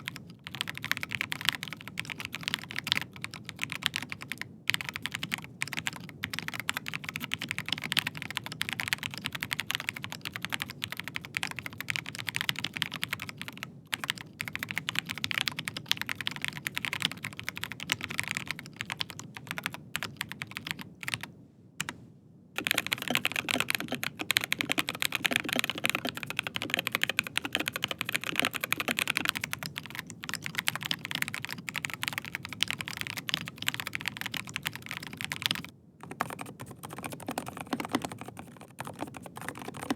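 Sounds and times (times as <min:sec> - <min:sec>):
fast typing on mechanical keyboard: 0:00.0 - 0:22.0, 0:22.6 - 0:39.9.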